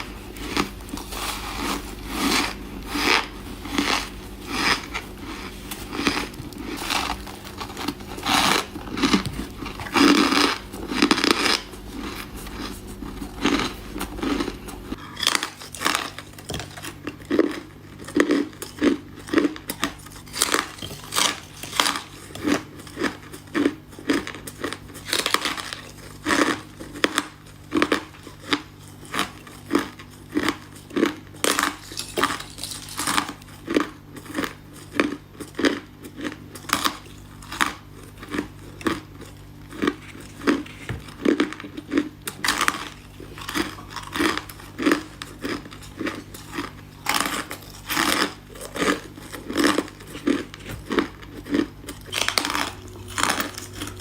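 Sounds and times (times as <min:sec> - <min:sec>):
ice cubes crunched between teeth: 0:00.4 - 0:54.0.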